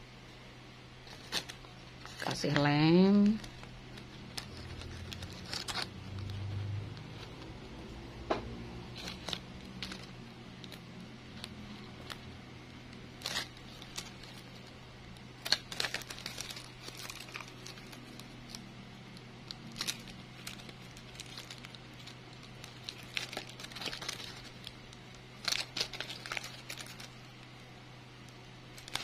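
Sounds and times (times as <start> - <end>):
faint low hum: 0.0 - 29.0
plastic bag crinkling: 1.0 - 7.9, 8.8 - 27.6, 28.6 - 29.0.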